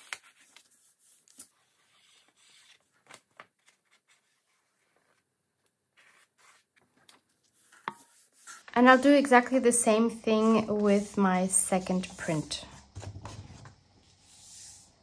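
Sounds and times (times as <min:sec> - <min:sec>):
paper rustling: 0:00.0 - 0:09.1, 0:10.3 - 0:14.9.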